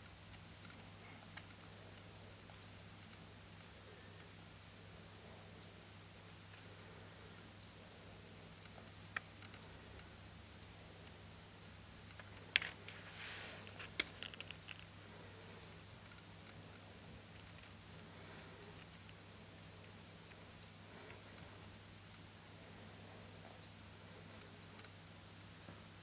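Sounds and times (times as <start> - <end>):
small ticks: 0.0 - 4.8, 5.5 - 13.0, 13.6 - 25.9
steady low hum: 0.0 - 26.0.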